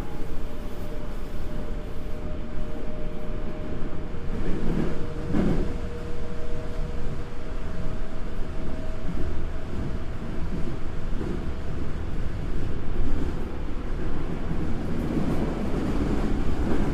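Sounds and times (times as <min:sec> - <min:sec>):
subway train rumble: 0:00.0 - 0:16.9.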